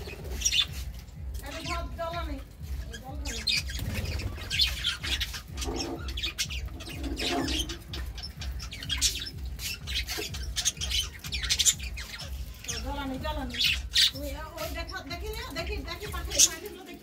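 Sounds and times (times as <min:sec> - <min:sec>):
budgerigars chattering: 0:00.0 - 0:16.9.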